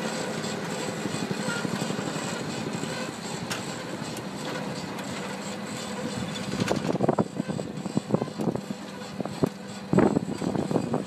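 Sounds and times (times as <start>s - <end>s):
harvester mechanical rattle and hum: 0.0s - 11.0s.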